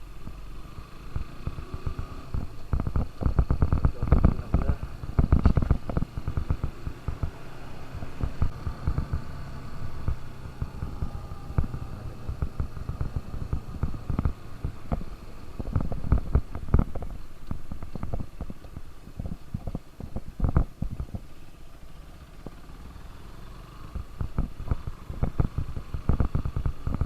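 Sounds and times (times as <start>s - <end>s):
motorcycle engine running: 0.0s - 27.0s
wind noise on microphone: 1.7s - 21.3s, 23.9s - 27.0s.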